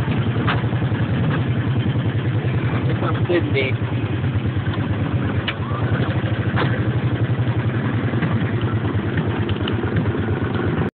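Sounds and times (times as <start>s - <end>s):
go-kart engine puttering: 0.0s - 10.9s.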